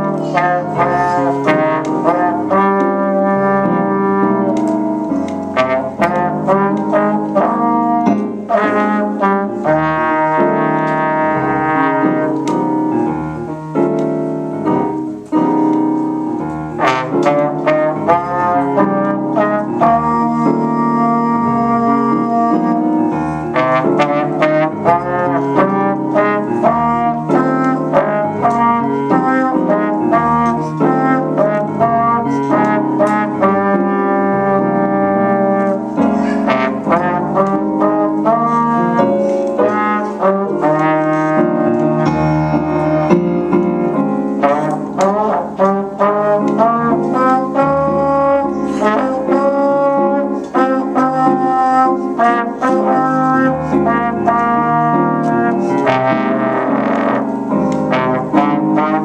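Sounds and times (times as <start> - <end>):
piano accompaniment: 0.0 - 59.0
trombone melody: 0.0 - 59.0.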